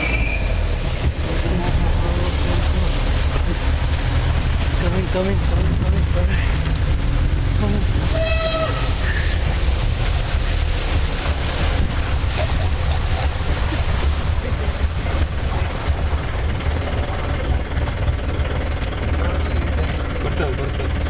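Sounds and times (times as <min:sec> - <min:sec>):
vehicle engine rumbling: 0:00.0 - 0:21.0
wind buffeting microphone: 0:00.0 - 0:21.0.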